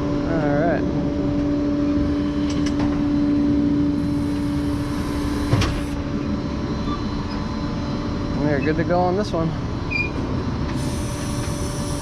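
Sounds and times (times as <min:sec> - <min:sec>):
mechanical drone: 0:00.0 - 0:12.0.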